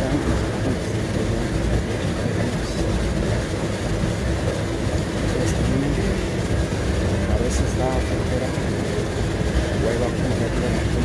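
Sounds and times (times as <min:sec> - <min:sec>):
footsteps on treadmill: 0:00.0 - 0:11.0
treadmill motor and belt rumble: 0:00.0 - 0:11.0.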